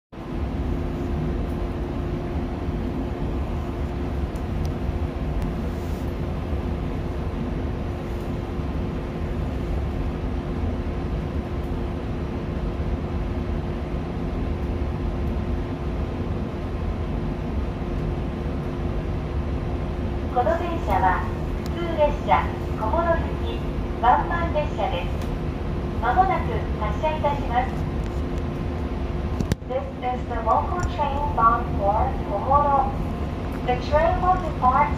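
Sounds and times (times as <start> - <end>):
train equipment humming: 0.2 - 34.9.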